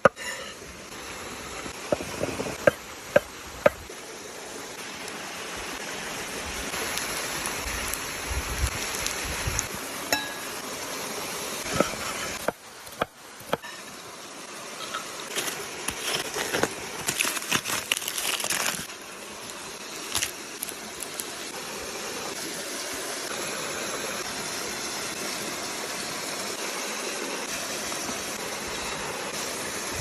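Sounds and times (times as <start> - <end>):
pot hissing: 0.0 - 30.0.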